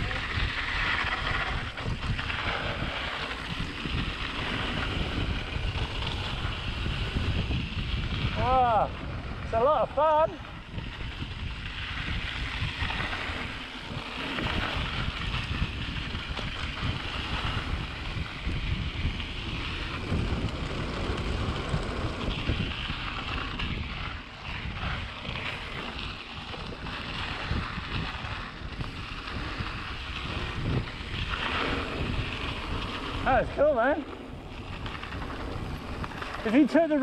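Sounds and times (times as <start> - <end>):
bike tyres rumbling on dirt: 0.0 - 37.0
wind buffeting microphone: 0.0 - 37.0.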